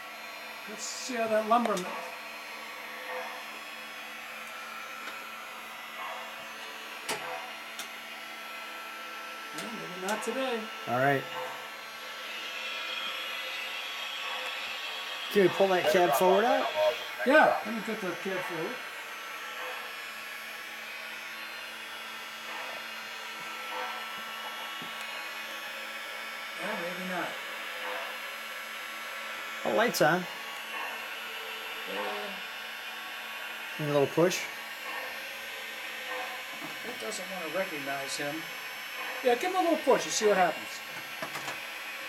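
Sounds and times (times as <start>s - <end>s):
model trains humming: 0.0s - 42.0s.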